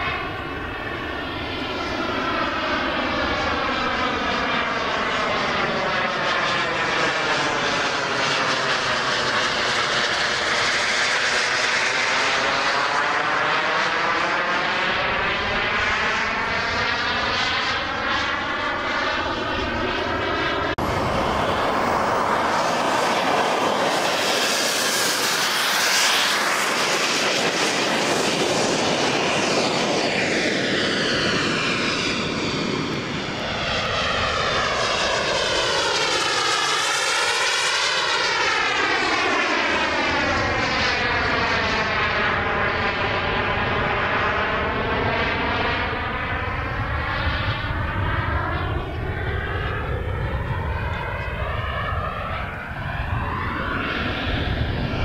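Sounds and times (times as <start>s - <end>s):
jet engine noise: 0.0s - 55.0s.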